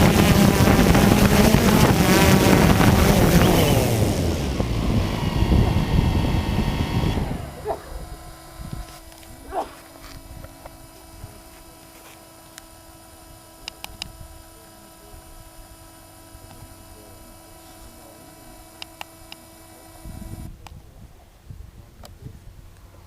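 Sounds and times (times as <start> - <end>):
steady mechanical hum: 0.0 - 20.8.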